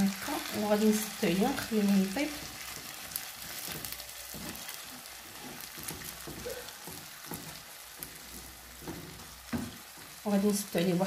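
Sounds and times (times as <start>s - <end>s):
meat and beans sizzling in a pan: 0.0s - 11.0s
wooden spatula scraping a pan: 0.4s - 10.9s.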